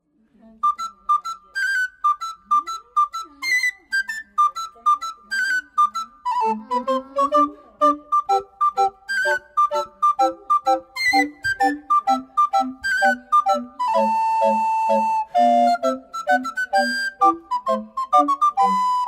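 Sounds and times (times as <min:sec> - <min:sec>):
bouncy background music: 0:00.6 - 0:19.0.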